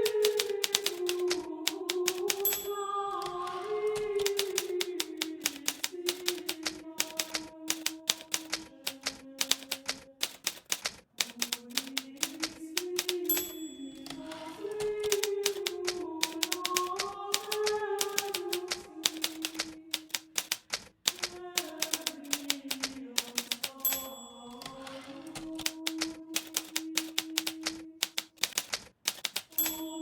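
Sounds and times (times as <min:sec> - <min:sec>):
typewriter key strikes: 0:00.0 - 0:30.0.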